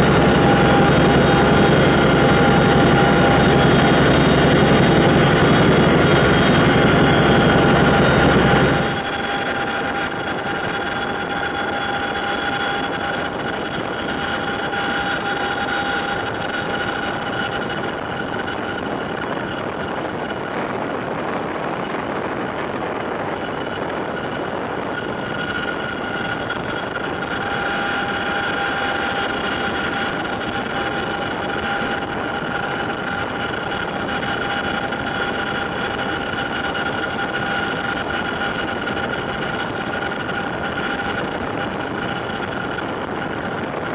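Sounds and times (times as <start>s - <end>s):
helicopter engine and rotor rush: 0.0s - 43.9s
high whine: 0.0s - 43.9s.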